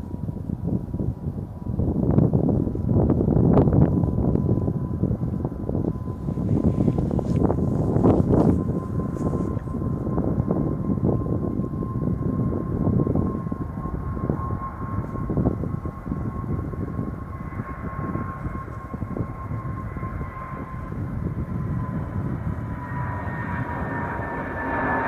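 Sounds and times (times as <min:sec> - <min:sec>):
jet engine rumble and whine: 0:00.0 - 0:25.0
higher whine: 0:00.7 - 0:25.0.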